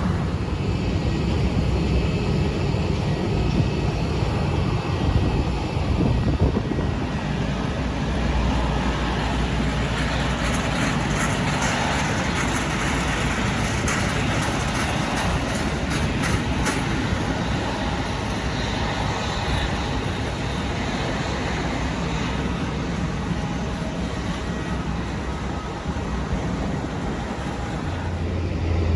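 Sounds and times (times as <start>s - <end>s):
jet engines roaring: 0.0s - 28.9s.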